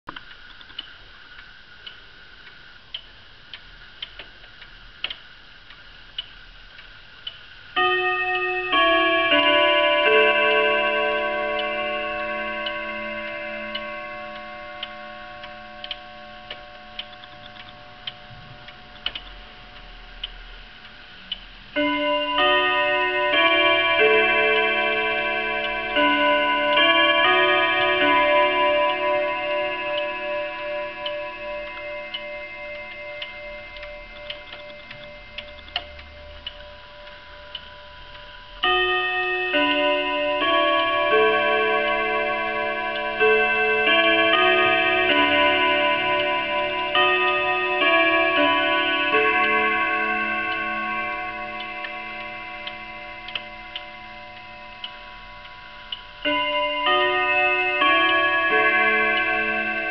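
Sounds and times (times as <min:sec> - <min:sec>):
pendulum clock ticking: 0:00.1 - 0:59.9
clock chime melody: 0:07.7 - 0:59.9.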